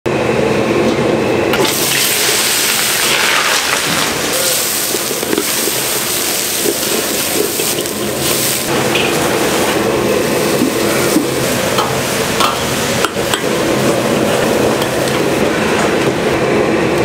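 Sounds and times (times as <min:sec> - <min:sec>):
sizzling in a hot wok: 0:01.6 - 0:16.0.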